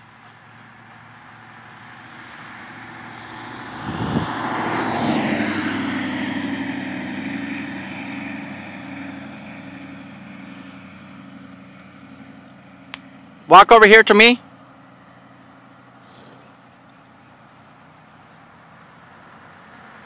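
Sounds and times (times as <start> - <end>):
engine passing by: 0.0 - 20.0.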